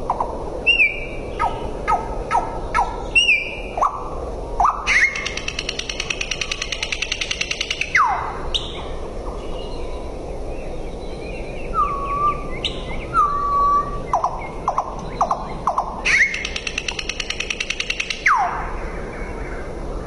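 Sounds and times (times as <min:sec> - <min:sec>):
nightingale singing: 0:00.0 - 0:19.7.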